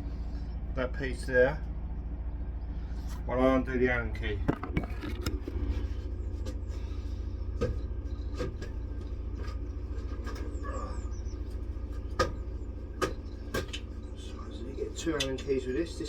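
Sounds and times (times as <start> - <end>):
low motor drone: 0.0 - 16.0.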